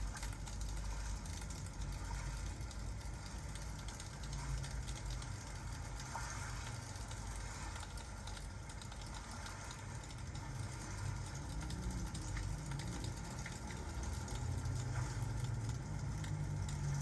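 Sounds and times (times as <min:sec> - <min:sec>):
fireplace crackling: 0:00.0 - 0:17.0
rain hiss: 0:00.0 - 0:17.0.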